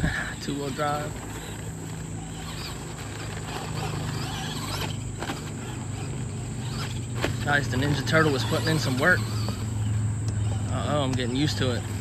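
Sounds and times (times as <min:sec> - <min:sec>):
electric motor running: 0:00.0 - 0:12.0
tyres scrabbling on dirt: 0:00.0 - 0:12.0.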